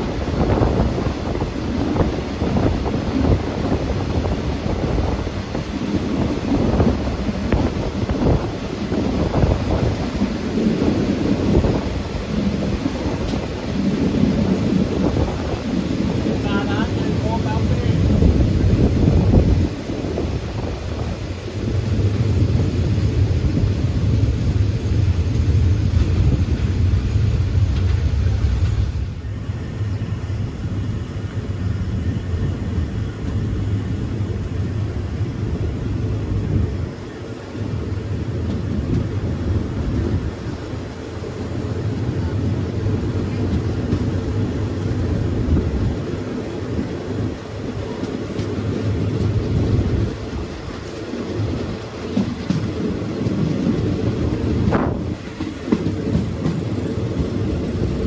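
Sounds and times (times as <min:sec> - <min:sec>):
train wheels rumbling: 0:00.0 - 0:58.0
wind hiss: 0:00.0 - 0:58.0.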